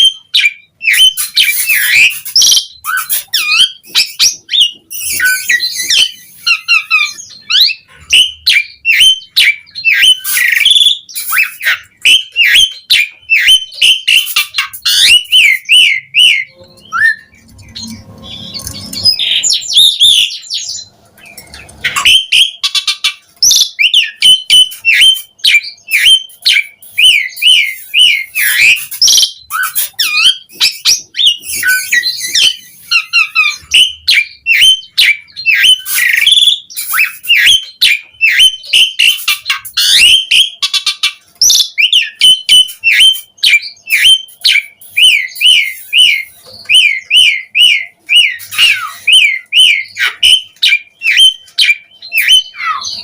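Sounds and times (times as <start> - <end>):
starling singing: 0.0 - 53.0.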